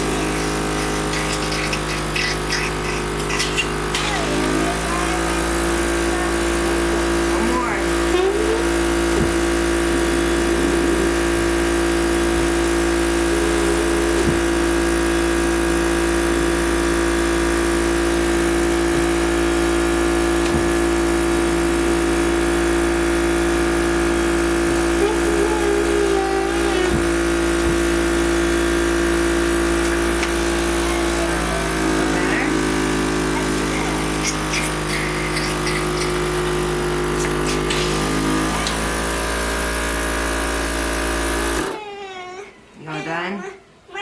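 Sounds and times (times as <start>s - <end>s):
blower motor humming: 0.0s - 41.8s.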